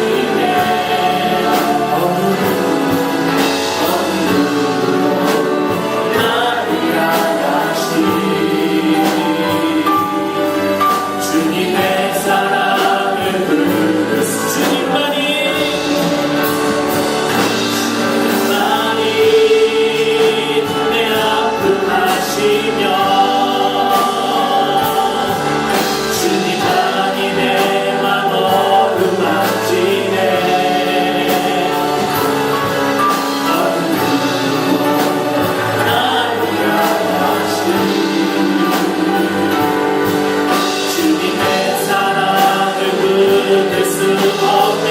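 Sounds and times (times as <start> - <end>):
group singing worship song: 0.0 - 44.9
instrumental accompaniment: 0.0 - 44.9.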